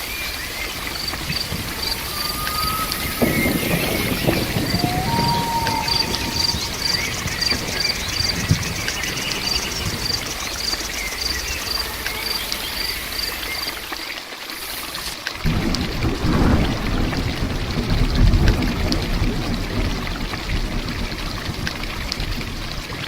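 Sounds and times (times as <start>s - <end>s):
heavy rain: 0.0s - 23.0s
splashing and pouring water: 0.0s - 23.0s.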